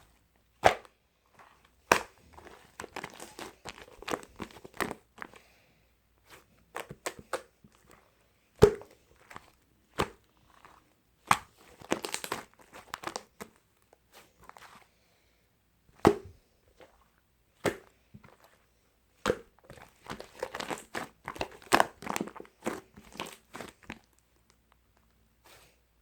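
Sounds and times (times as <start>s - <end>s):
crinkling and rustling: 1.2s - 5.5s, 6.2s - 14.9s, 16.7s - 18.7s, 19.4s - 25.8s.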